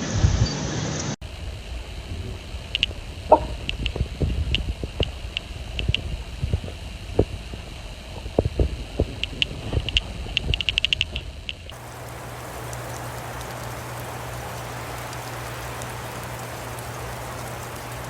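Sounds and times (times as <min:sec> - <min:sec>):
wind buffeting microphone: 0:01.4 - 0:18.0.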